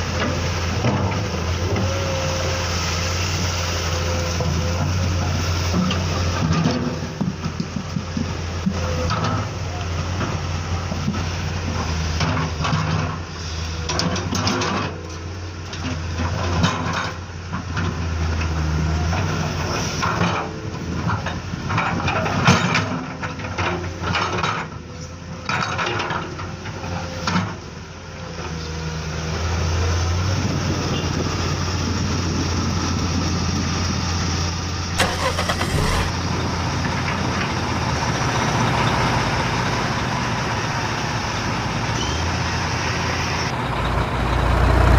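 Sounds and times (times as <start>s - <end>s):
engine-like hum: 0.0s - 44.9s
rushing vehicle noise: 0.0s - 44.9s.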